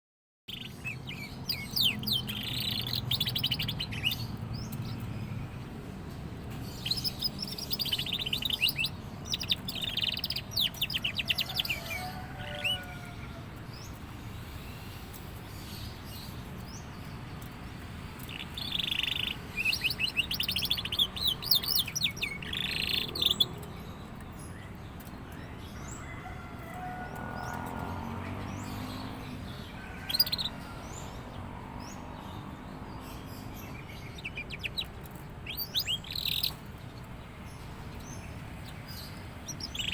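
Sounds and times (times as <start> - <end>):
canary singing trills: 0.5 - 39.9.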